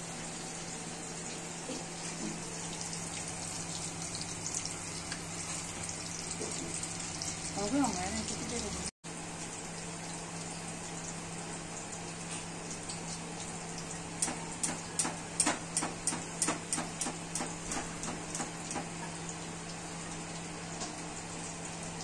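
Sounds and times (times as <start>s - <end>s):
oil sizzling: 0.0s - 22.0s.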